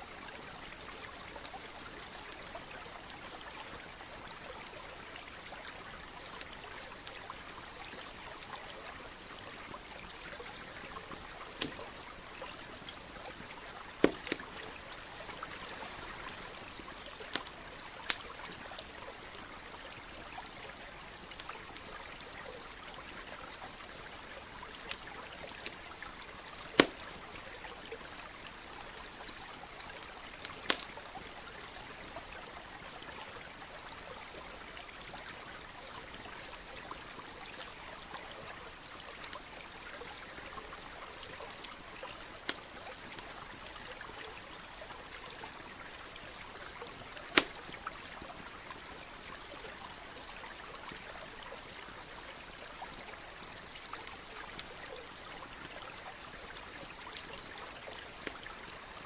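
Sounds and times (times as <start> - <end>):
campfire crackling and popping: 0.0 - 59.0
stream trickling: 0.0 - 59.0.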